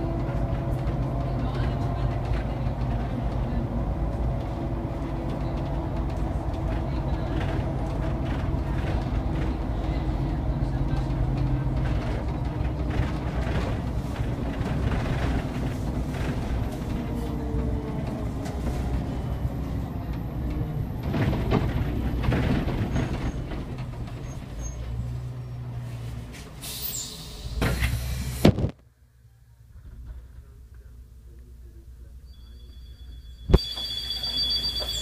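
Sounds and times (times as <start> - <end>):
bus drive hum: 0.0 - 32.2
road rumble: 0.0 - 32.3.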